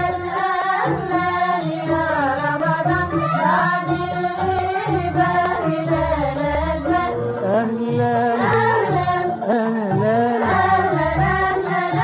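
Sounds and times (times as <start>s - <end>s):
person singing over instrumental music: 0.0s - 12.0s.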